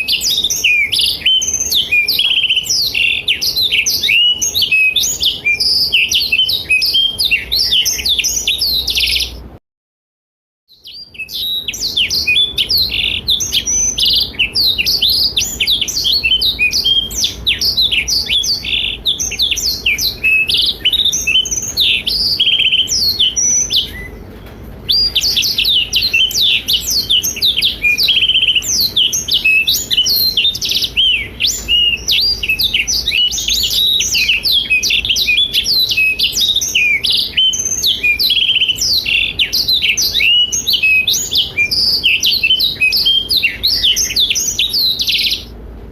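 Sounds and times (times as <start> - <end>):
canary singing: 0.0 - 9.6, 10.7 - 45.6.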